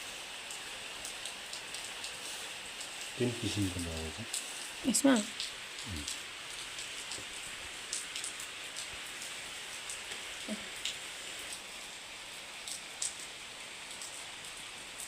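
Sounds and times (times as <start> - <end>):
steady rain falling: 0.0 - 15.0
dripping ticks: 0.5 - 11.7, 12.6 - 15.0.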